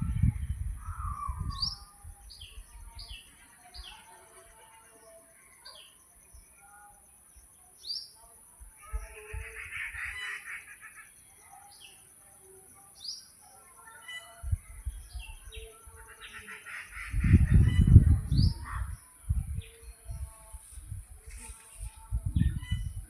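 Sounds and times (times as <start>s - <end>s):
small birds chirping: 0.2s - 23.0s.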